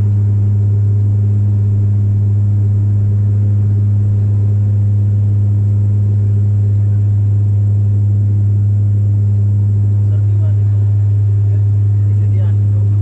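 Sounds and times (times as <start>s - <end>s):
faint higher hum: 0.0s - 13.0s
propeller drone in cabin: 0.0s - 13.0s.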